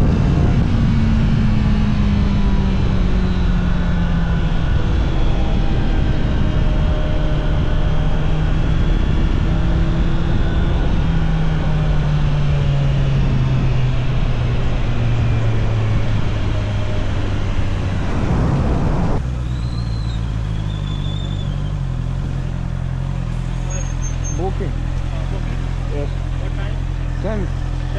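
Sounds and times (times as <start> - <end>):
wind noise: 0.0 - 24.8
motorcycle engine running: 0.0 - 27.9.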